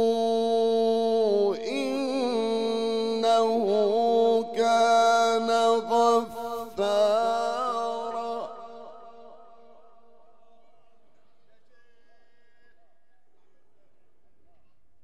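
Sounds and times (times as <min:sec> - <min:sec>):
man chanting melodically: 0:00.0 - 0:14.6.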